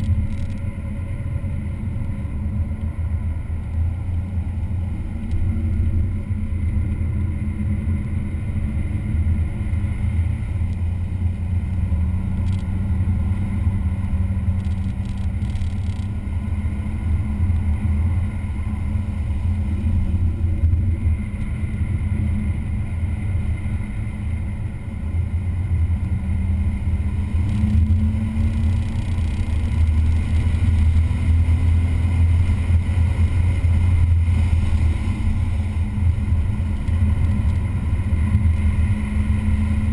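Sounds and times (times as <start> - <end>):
race car engine droning: 0.0 - 39.9
wind noise: 0.0 - 39.9.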